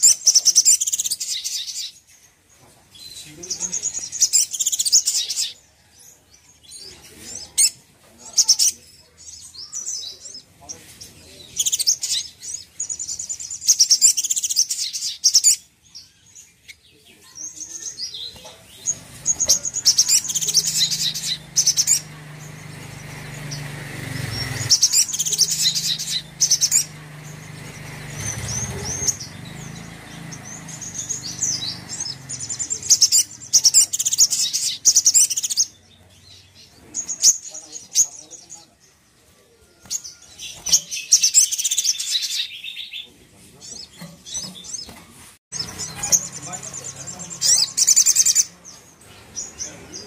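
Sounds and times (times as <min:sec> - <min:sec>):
bird twittering trills: 0:00.0 - 0:50.0.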